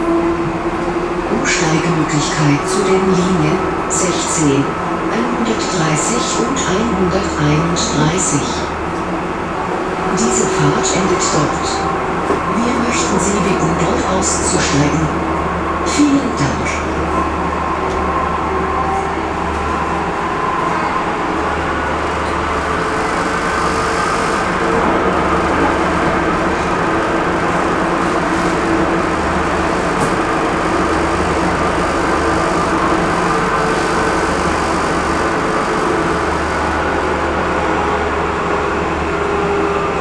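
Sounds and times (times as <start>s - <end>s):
tram wheels rumbling on rails: 0.0s - 40.0s.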